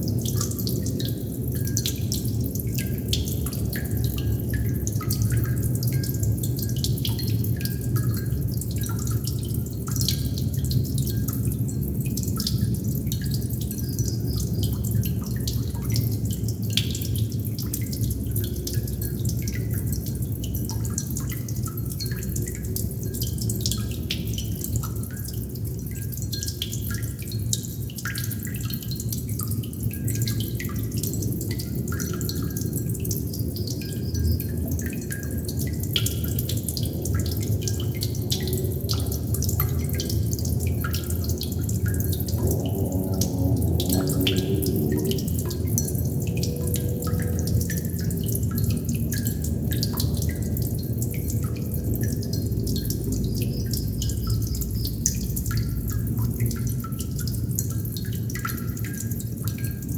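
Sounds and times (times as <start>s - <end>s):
low rush of water: 0.0s - 59.9s
water droplets dripping: 0.0s - 59.9s.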